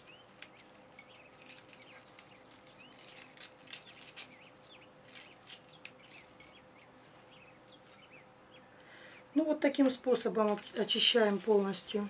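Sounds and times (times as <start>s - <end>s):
dried leaves crackling and rustling: 0.0s - 8.3s, 9.7s - 12.0s
birds chirping faintly: 0.0s - 12.0s.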